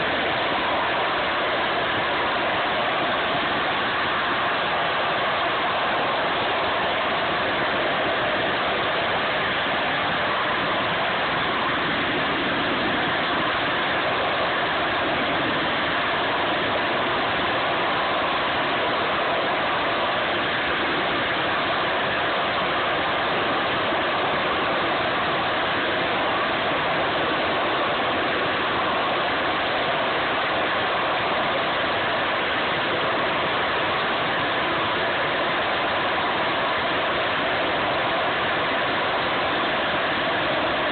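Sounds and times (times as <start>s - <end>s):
loud steady jet noise: 0.0s - 40.9s.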